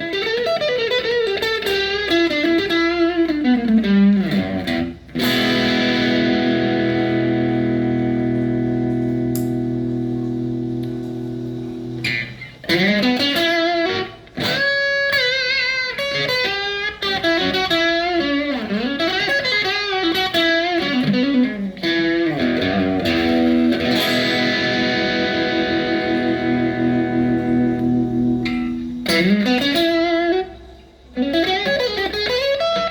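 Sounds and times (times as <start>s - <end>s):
electric guitar through amp: 0.0s - 32.9s.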